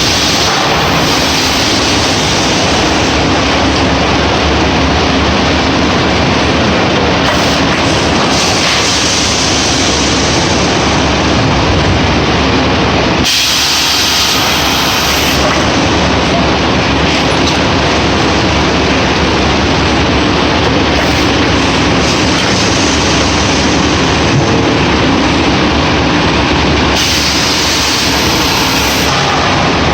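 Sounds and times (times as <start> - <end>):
packaging machine rumbling: 0.0 - 29.9.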